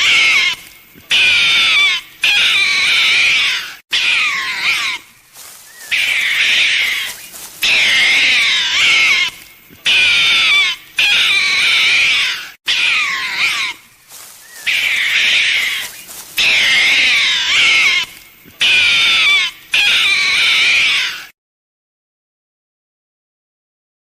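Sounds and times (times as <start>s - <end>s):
animal high-pitched wavering cries: 0.0s - 21.3s.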